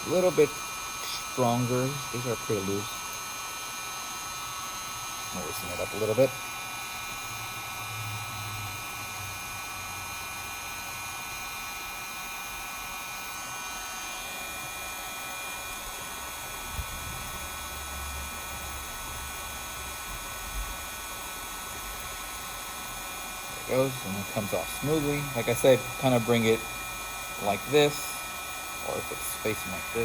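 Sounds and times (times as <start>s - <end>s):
heat gun blowing: 0.0s - 30.0s.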